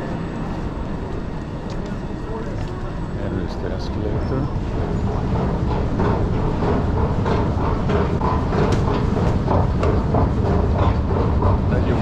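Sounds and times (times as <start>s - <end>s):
escalators running: 0.0s - 12.0s
station machinery rumble: 0.0s - 12.0s.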